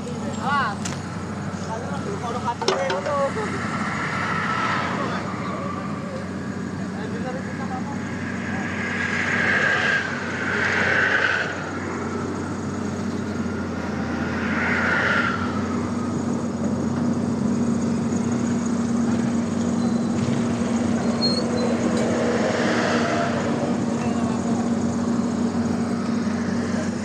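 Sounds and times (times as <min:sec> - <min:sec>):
heavy engine humming: 0:00.0 - 0:27.0
machinery and road noise: 0:00.0 - 0:27.0.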